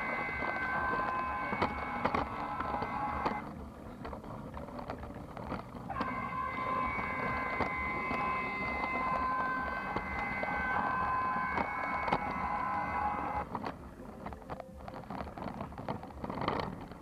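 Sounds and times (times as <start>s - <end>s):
toy train motor whine: 0.0s - 17.0s
wheels clicking over track: 0.0s - 17.0s.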